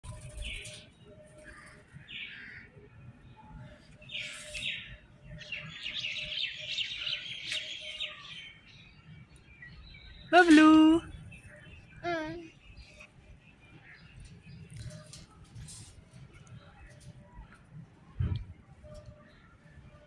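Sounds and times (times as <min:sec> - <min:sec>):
birds chirping and twittering: 0:00.1 - 0:20.0.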